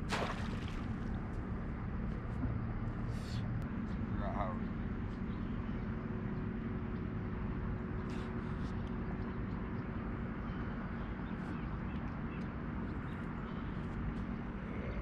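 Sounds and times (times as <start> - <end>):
faint held hum: 0.0 - 15.0
low background rumble: 0.0 - 15.0.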